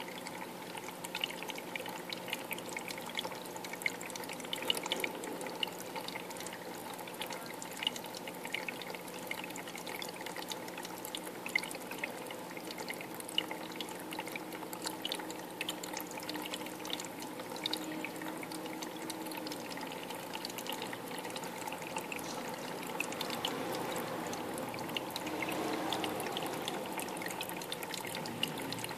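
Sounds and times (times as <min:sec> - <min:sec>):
low steady hum: 0:00.0 - 0:28.9
water trickling and pouring: 0:00.0 - 0:28.9.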